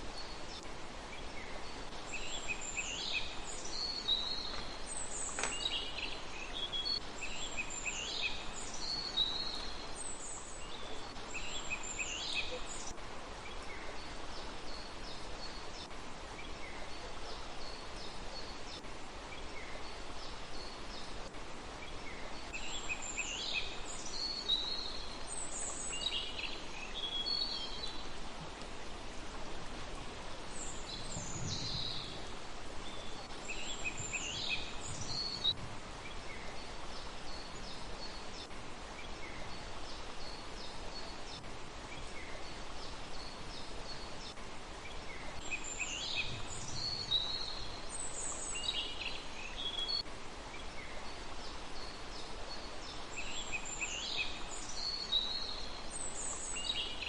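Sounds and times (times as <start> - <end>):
small birds chirping: 0.0 - 29.4, 30.0 - 57.0
steady outdoor hiss: 0.0 - 57.0.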